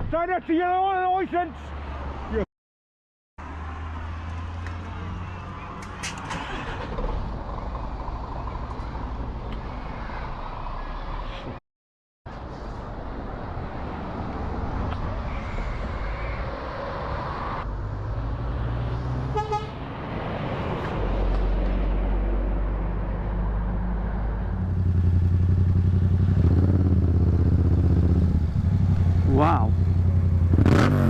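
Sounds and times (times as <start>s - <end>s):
vehicle engine and tyre noise: 3.4s - 11.6s, 12.3s - 31.0s.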